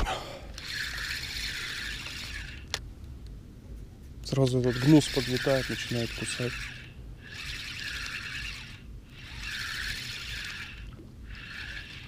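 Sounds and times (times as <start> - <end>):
fishing reel cranking: 0.5 - 2.8, 4.2 - 12.0.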